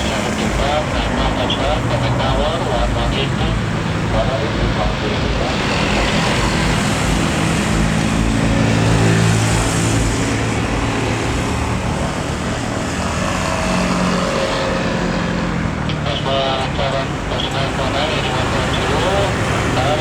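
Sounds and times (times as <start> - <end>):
jet engines passing low: 0.0 - 20.0.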